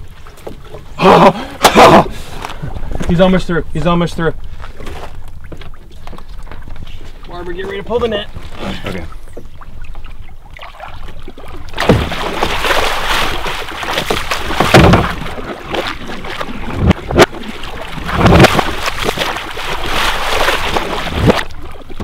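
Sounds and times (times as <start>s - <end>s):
water splashing against boat: 0.0s - 22.0s.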